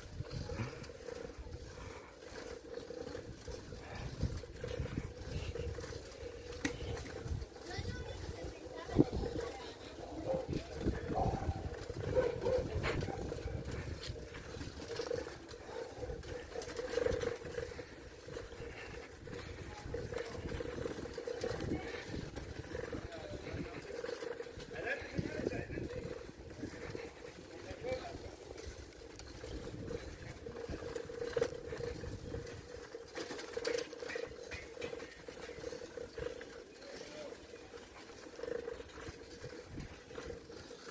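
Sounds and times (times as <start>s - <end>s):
wind buffeting microphone: 0.0s - 33.6s, 37.7s - 40.9s
bicycle clicks and rattles: 0.0s - 40.9s
bicycle riding hum: 0.0s - 40.9s.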